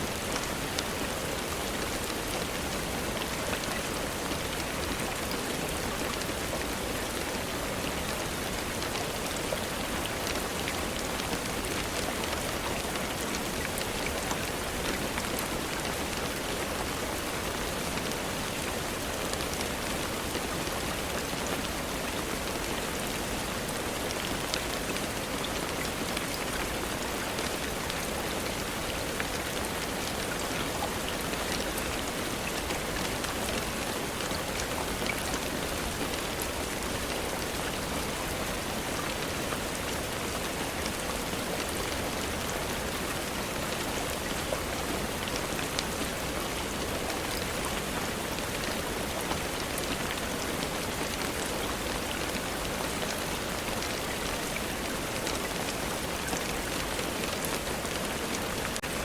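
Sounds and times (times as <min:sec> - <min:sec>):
faint ticks of raindrops: 0:00.0 - 0:59.0
steady rainfall hiss: 0:00.0 - 0:59.0.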